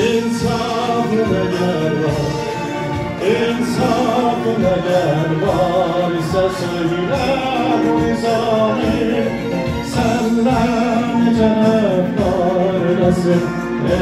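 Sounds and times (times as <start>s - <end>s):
man singing: 0.0s - 14.0s
musical backing: 0.0s - 14.0s.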